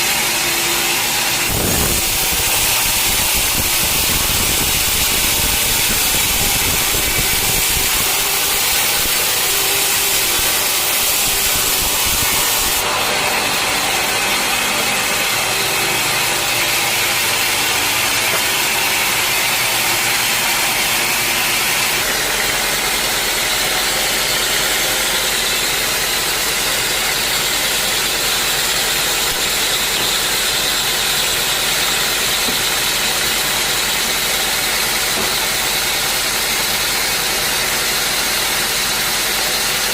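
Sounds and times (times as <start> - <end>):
sawmill engine and saw noise: 0.0 - 39.9.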